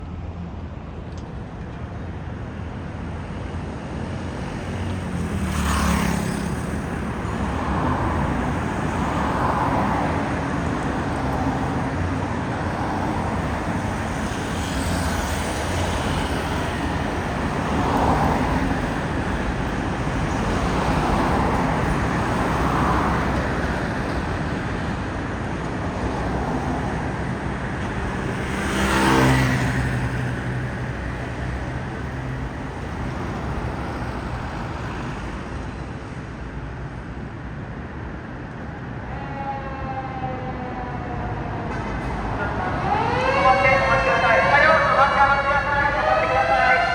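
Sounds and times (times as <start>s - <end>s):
vehicles passing on street: 0.0s - 46.9s.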